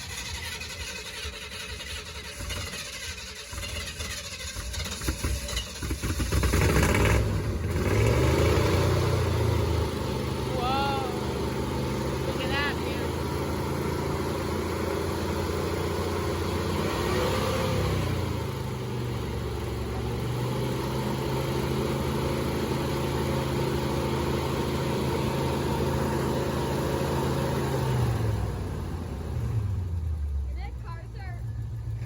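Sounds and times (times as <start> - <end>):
pickup engine idling: 0.0 - 32.0.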